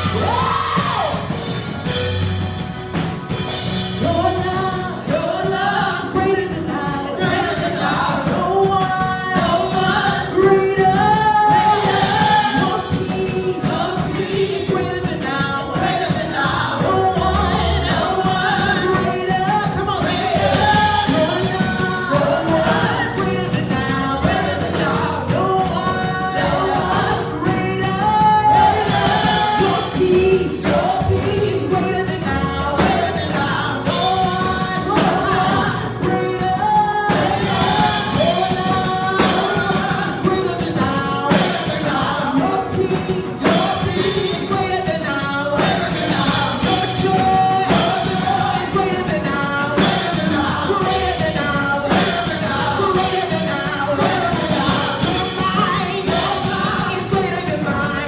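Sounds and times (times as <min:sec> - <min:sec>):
band with drums: 0:00.0 - 0:58.0
voices singing together: 0:00.0 - 0:58.0.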